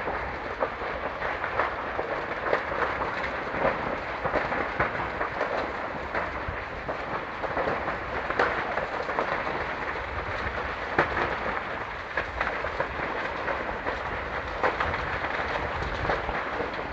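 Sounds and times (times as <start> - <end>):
fire cracking and popping: 0.0 - 16.9
fire rushing noise: 0.0 - 16.9.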